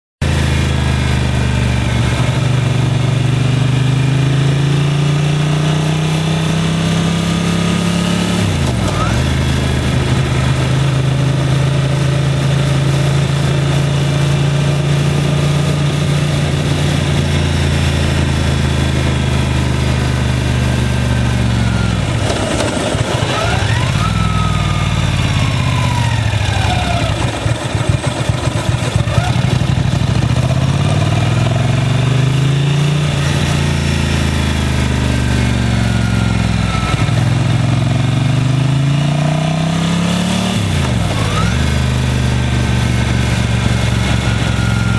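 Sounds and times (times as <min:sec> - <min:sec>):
motorcycle engine accelerating: 0:00.2 - 0:44.9.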